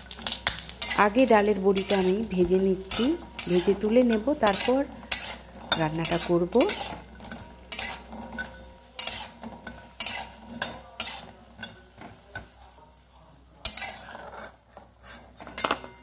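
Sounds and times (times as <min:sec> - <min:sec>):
quiet frying sizzle: 0:00.0 - 0:16.0
metal spatula scraping wok: 0:00.1 - 0:12.6, 0:13.5 - 0:16.0.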